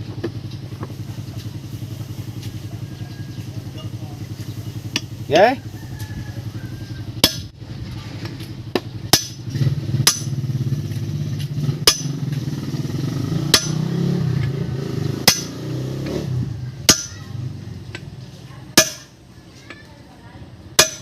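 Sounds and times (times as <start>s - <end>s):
engine low drone: 0.0s - 19.5s.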